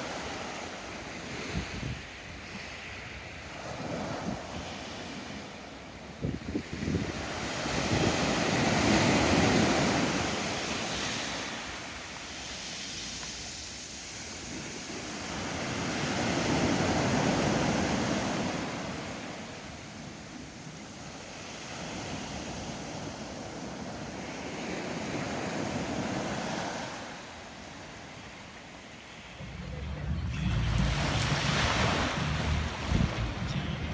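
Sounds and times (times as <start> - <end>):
ocean waves breaking on shore: 0.0 - 33.9.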